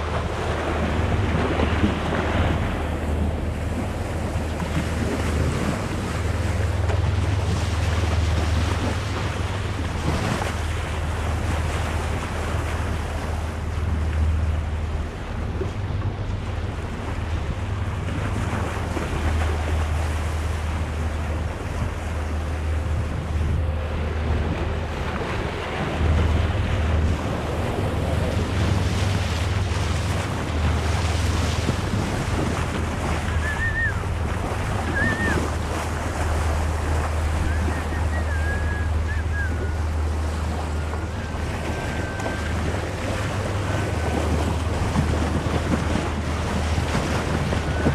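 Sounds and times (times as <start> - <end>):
sea waves rushing: 0.0 - 47.9
wind buffeting microphone: 0.0 - 47.9.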